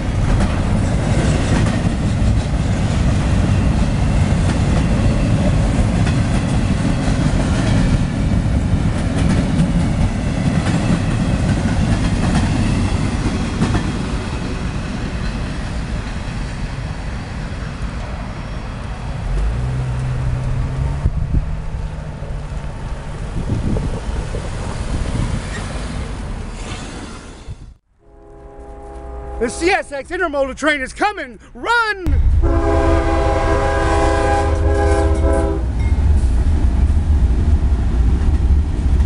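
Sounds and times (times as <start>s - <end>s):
freight train wheels rumbling: 0.0s - 31.1s, 32.0s - 39.0s.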